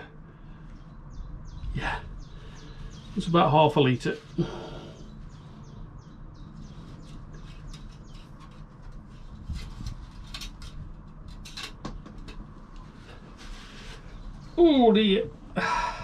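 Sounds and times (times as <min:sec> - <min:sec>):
low steady hum: 0:00.0 - 0:16.0
small birds chirping: 0:00.0 - 0:16.0.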